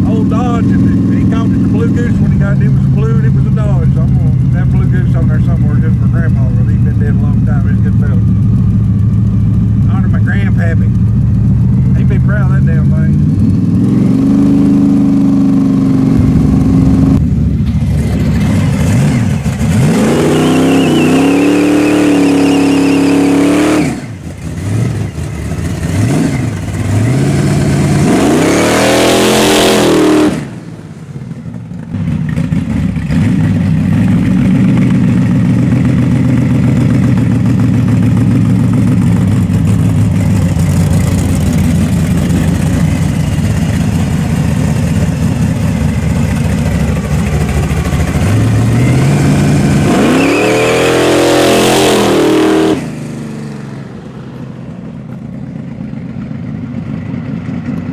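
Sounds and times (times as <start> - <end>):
pickup truck engine accelerating: 0.0 - 57.9.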